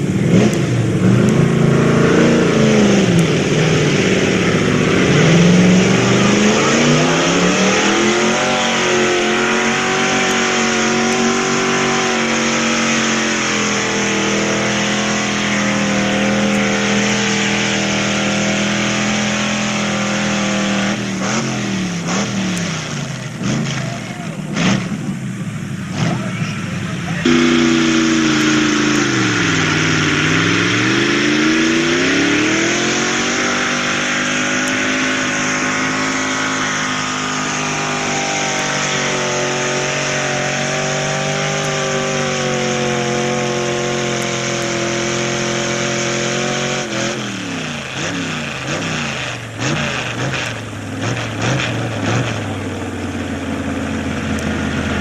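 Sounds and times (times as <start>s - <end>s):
pickup truck engine at full throttle: 0.0s - 55.0s.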